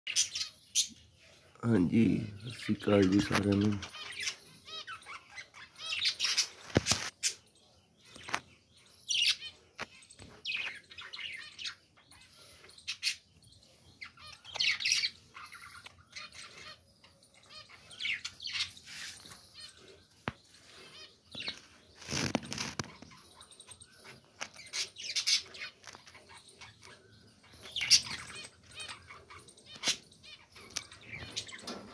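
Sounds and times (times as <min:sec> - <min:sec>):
budgerigars chirping: 0:00.1 - 0:01.1, 0:01.7 - 0:07.4, 0:08.0 - 0:31.9.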